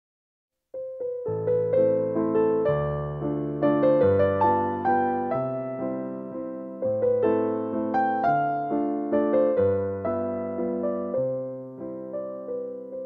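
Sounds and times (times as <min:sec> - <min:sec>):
gentle electric piano piece: 0:00.8 - 0:13.0.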